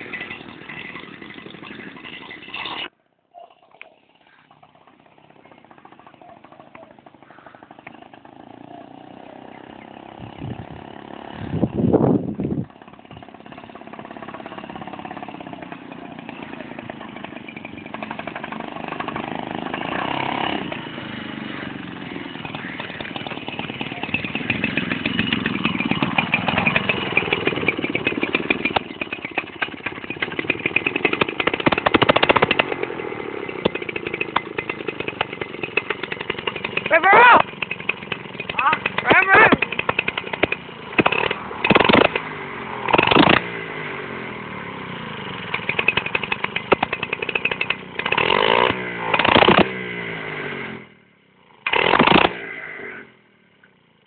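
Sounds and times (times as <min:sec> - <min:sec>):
small engine revving: 0:00.0 - 0:02.9, 0:03.7 - 0:54.0.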